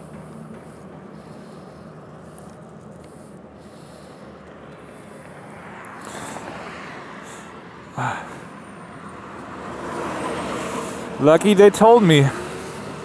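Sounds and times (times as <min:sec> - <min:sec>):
motorcycle road noise: 0:00.0 - 0:13.0.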